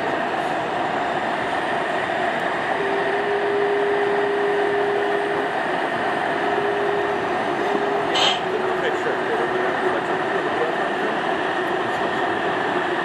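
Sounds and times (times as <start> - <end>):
steady whine: 0.0 - 13.0.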